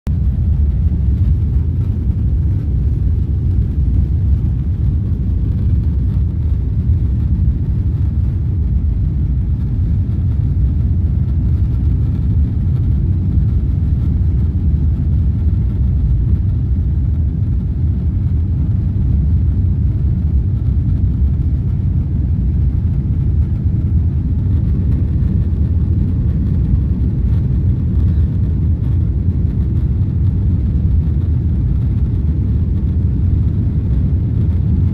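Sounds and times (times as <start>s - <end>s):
jet engine low rumble in cabin: 0.0s - 34.9s.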